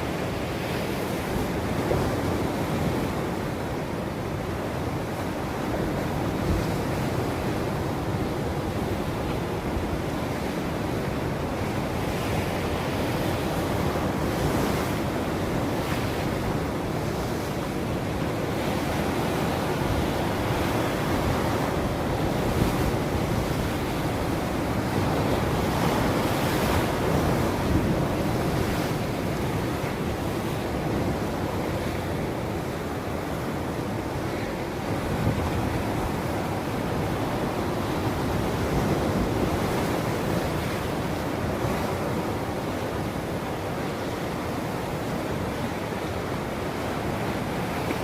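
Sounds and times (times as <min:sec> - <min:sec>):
ocean waves washing ashore: 0:00.0 - 0:48.0
wind noise on microphone: 0:00.0 - 0:48.0.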